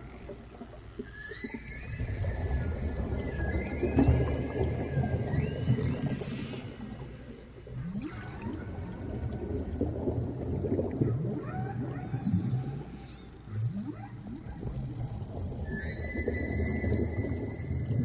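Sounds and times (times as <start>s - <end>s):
whale song calls: 1.0s - 18.0s.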